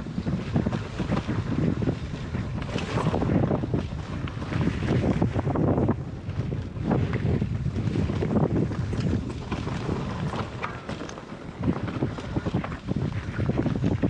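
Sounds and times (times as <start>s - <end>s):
bike rattling: 0.0s - 14.0s
bike tyres rolling over rocks: 0.0s - 14.0s
wind rumbling on microphone: 0.0s - 14.0s.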